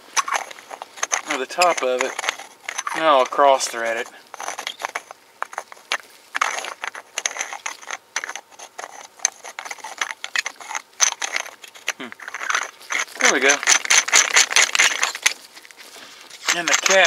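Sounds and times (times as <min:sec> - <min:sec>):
knob scraping and clicking on threads: 0:00.2 - 0:17.0.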